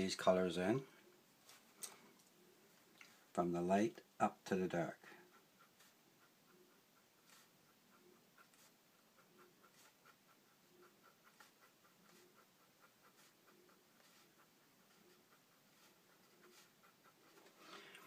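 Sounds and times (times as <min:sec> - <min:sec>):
paint brush strokes: 0:00.0 - 0:18.0.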